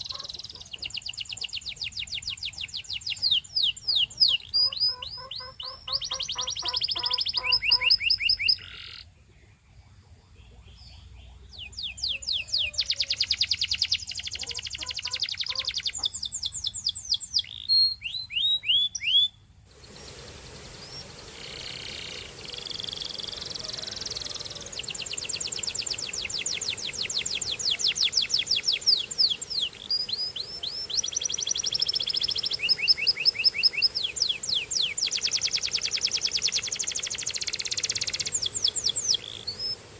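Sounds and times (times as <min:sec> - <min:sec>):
canary singing trills: 0:00.0 - 0:19.4, 0:20.0 - 0:39.9
background hiss: 0:00.0 - 0:39.9.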